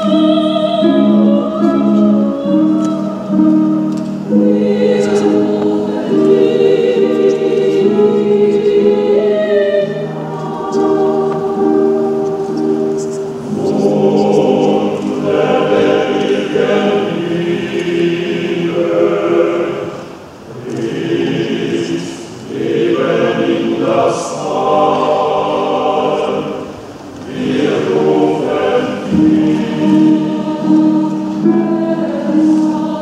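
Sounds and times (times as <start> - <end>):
opera chorus singing hymn: 0.0 - 33.0
orchestral accompaniment: 0.0 - 33.0.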